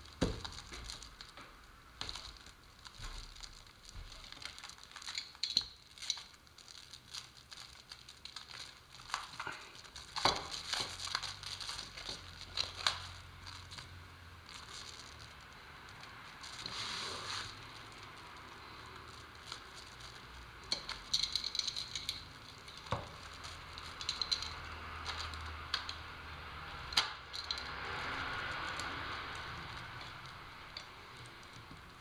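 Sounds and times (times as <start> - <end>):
plastic sheeting crinkling: 0.0 - 32.0.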